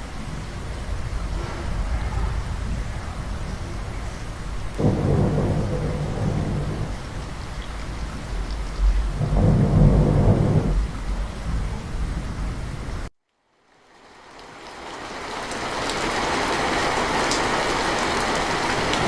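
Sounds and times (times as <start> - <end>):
heavy rain: 0.0 - 19.0
thunder rolling: 0.2 - 13.1, 15.2 - 19.0.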